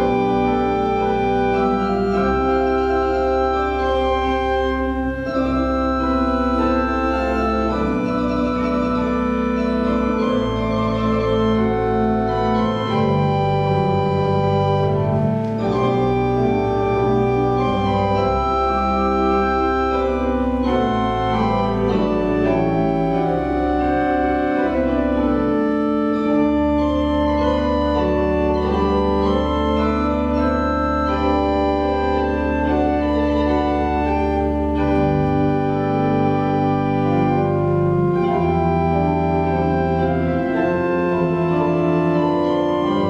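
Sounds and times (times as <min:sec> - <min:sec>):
church organ chords: 0:00.0 - 0:43.0.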